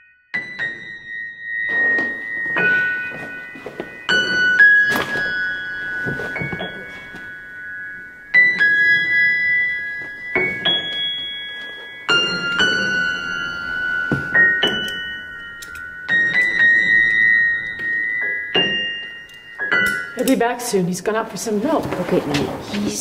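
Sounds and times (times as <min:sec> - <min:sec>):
slow upright piano: 0:01.7 - 0:20.2.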